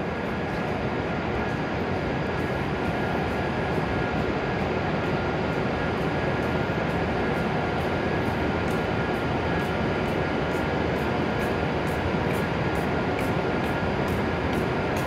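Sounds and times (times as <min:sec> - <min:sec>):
faint high whine: 0:00.0 - 0:15.0
train equipment whirring: 0:00.0 - 0:15.0.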